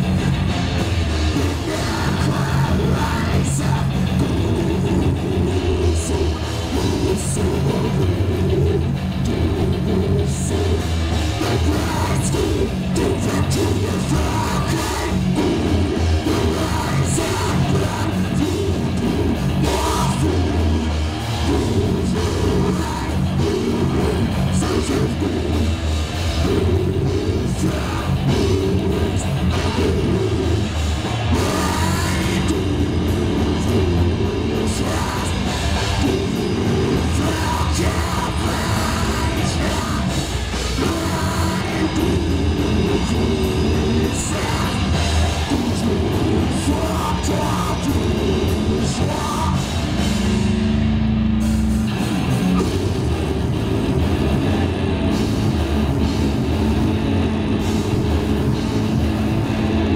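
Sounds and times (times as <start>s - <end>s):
singing and yelled vocals: 0.0s - 50.6s
distorted electric guitars: 0.0s - 59.9s
drum kit with cymbal hits: 0.0s - 59.9s.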